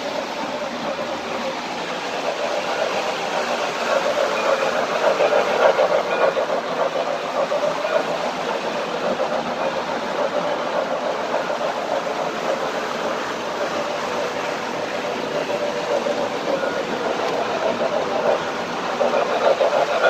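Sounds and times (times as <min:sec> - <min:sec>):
model train wheels rumbling: 0:00.0 - 0:20.0.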